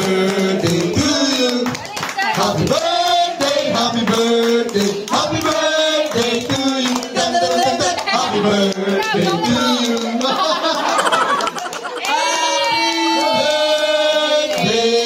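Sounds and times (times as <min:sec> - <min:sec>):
hands clapping: 0:00.0 - 0:03.2, 0:04.0 - 0:13.9
group of people singing: 0:00.0 - 0:15.0
karaoke music: 0:00.0 - 0:15.0.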